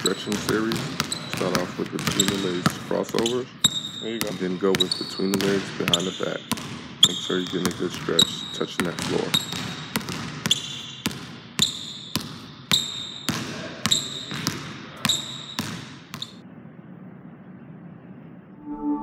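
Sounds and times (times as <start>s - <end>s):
basketball bouncing on hardwood: 0.0s - 16.4s.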